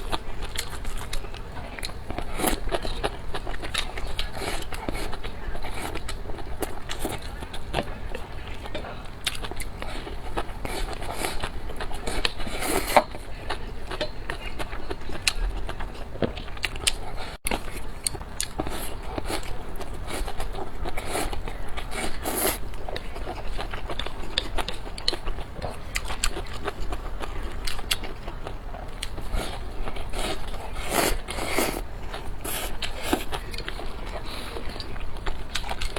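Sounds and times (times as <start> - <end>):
chewing and biting: 0.0 - 35.9.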